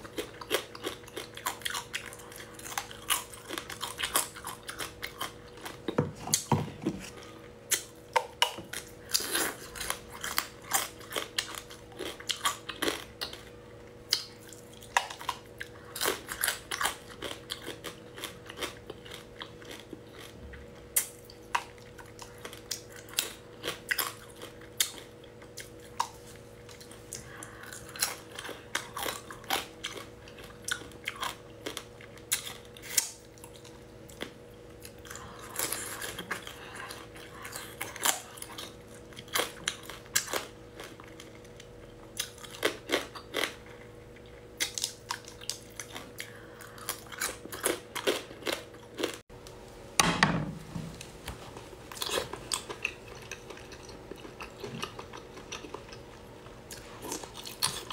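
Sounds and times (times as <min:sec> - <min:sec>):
wet chewing: 0:00.0 - 0:49.2, 0:51.9 - 0:57.9
faint steady hum: 0:00.0 - 0:57.9.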